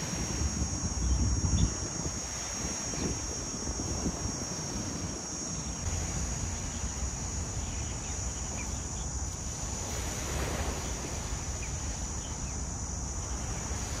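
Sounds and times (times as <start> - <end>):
small waves washing on sand: 0.0 - 1.0, 1.7 - 14.0
high-pitched hiss: 0.0 - 14.0
wind buffeting microphone: 0.0 - 14.0.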